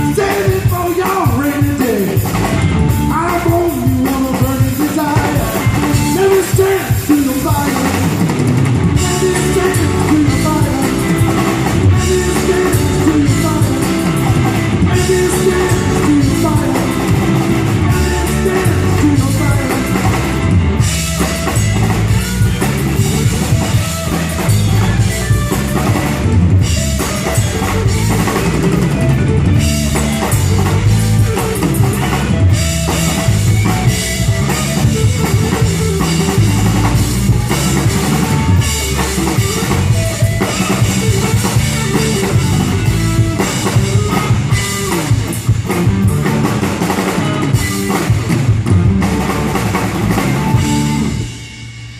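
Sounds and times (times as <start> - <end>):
rock band playing instrumental: 0.0 - 51.9.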